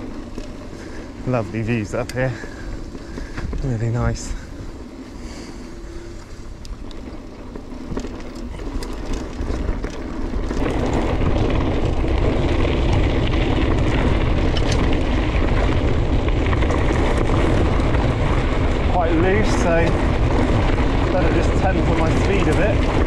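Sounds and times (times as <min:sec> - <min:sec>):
bike clicks and rattles: 0:00.0 - 0:23.0
bike tyres on gravel: 0:00.0 - 0:23.0.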